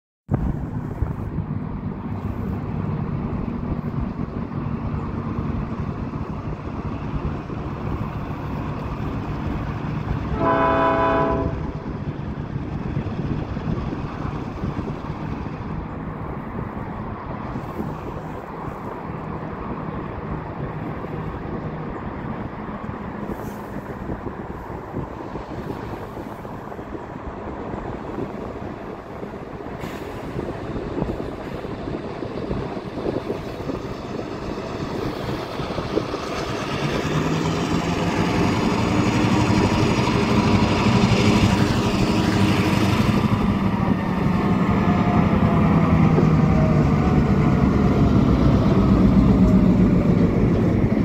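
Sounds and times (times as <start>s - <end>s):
diesel locomotives running: 0.3s - 51.0s
freight train rumbling: 0.3s - 51.0s.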